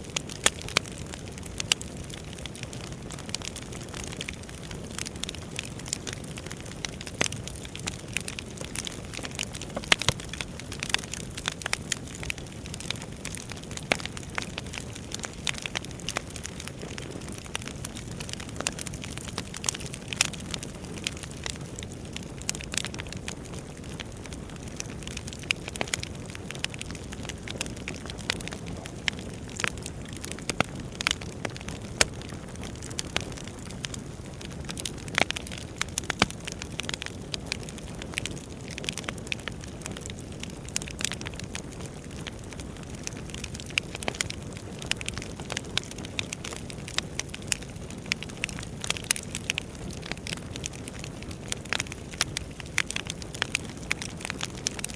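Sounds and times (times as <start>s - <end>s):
burning firewood crackling: 0.0s - 54.9s.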